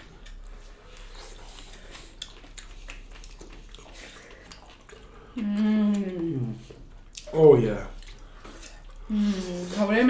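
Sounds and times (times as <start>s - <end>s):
chewing with wet clicks: 0.0s - 10.0s.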